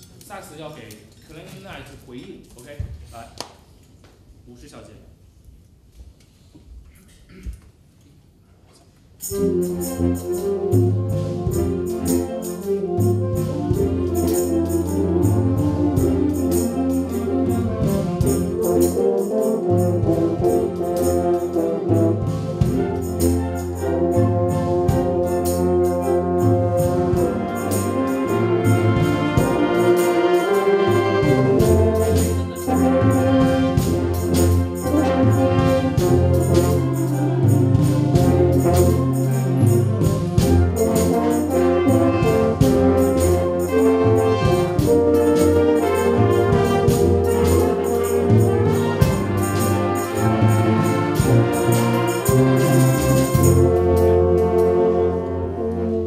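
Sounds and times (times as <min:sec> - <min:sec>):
percussion beat: 0:09.2 - 0:54.8
brass chords: 0:09.2 - 0:56.0.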